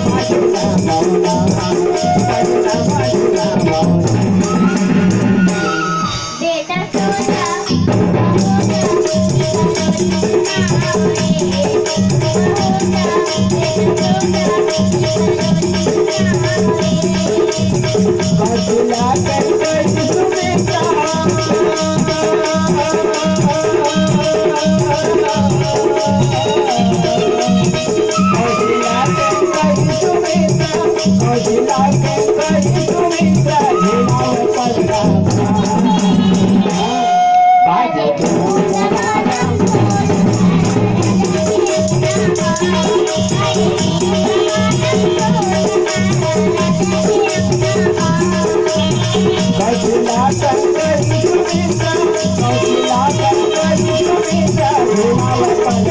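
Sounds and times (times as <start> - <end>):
hand drums beating: 0.0 - 37.5, 38.2 - 55.9
harmonium melody: 0.0 - 55.9.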